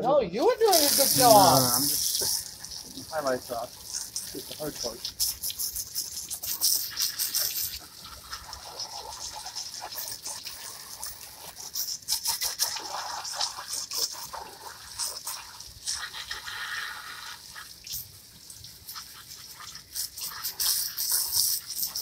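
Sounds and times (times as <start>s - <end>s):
hose spray on plastic chairs: 0.5s - 22.0s.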